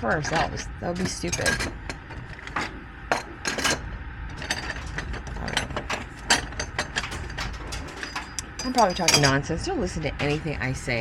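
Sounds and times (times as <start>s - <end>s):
rapid mechanical clicks and rattles: 0.0s - 9.6s.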